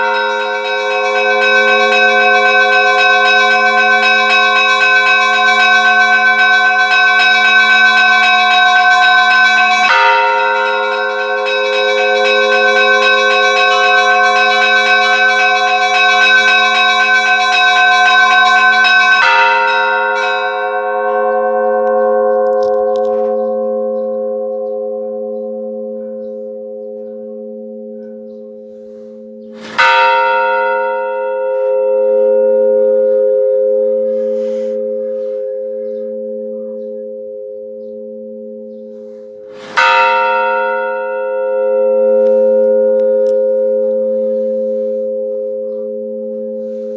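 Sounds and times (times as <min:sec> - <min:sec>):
church bells pealing: 0:00.0 - 0:46.9
large bell strokes with ringing hum: 0:00.0 - 0:46.9.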